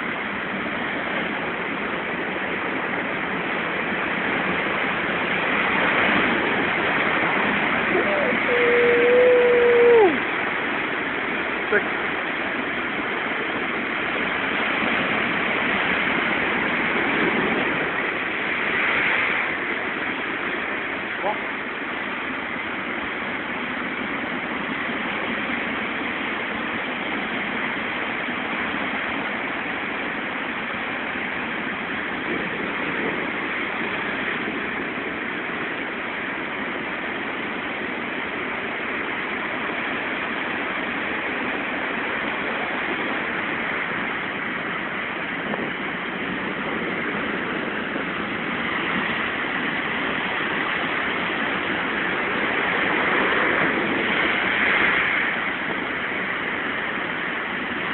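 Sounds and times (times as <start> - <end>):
waves breaking over rocks: 0.0 - 57.9.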